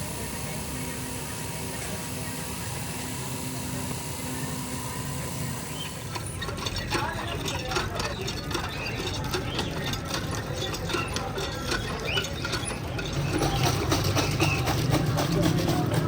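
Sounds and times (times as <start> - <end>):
mechanical clicking and clattering: 0.0 - 16.0
steady background hum: 0.0 - 16.0.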